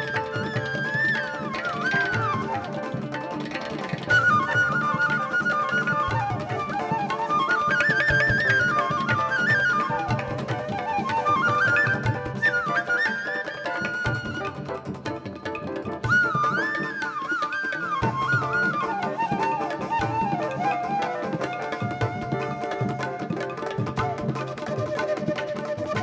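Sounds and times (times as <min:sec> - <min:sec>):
flute melody with slides: 0:00.0 - 0:26.0
hand drums: 0:00.0 - 0:26.0.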